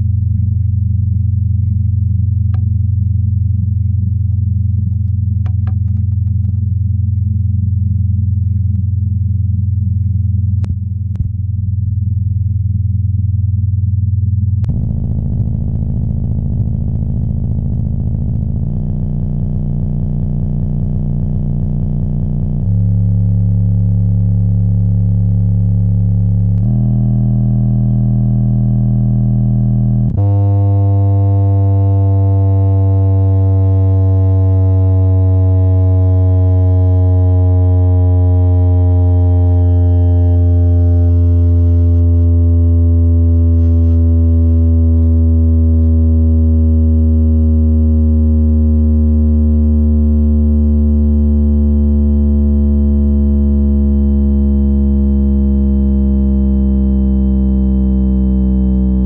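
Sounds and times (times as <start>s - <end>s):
buzzy low subwoofer tone: 0.0s - 59.0s.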